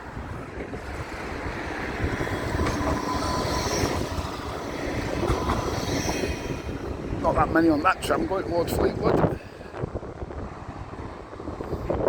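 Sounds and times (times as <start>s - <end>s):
tram rumbling on rails: 0.0s - 12.0s.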